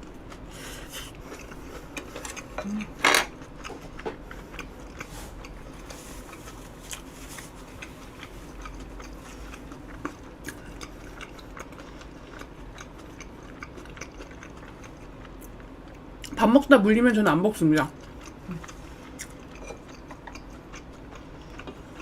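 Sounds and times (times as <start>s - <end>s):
close chewing: 0.0s - 16.4s, 17.8s - 22.0s.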